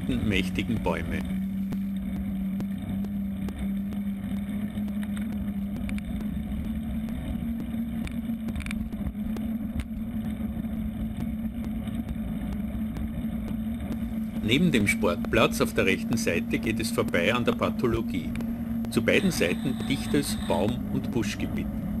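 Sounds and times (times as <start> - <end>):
low road rumble: 0.0 - 22.0
small vehicle engine cruising: 0.0 - 22.0.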